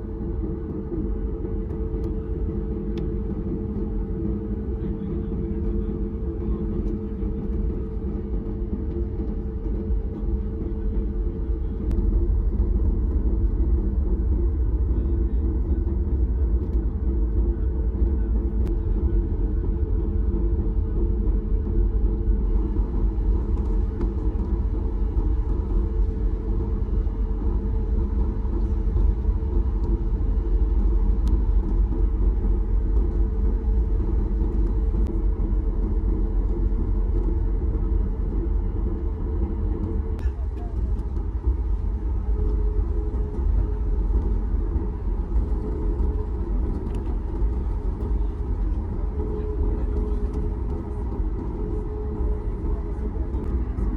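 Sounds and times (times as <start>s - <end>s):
airplane cabin engine rumble: 0.0s - 53.9s
steady hum: 0.0s - 53.9s.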